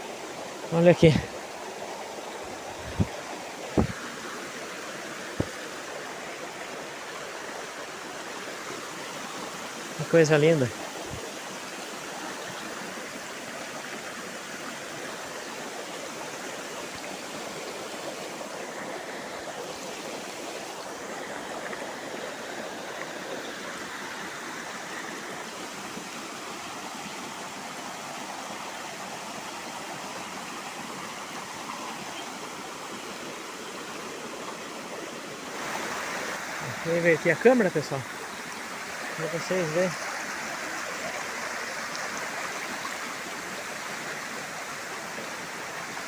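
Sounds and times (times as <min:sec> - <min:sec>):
waterfall rushing over rock: 0:00.0 - 0:46.0.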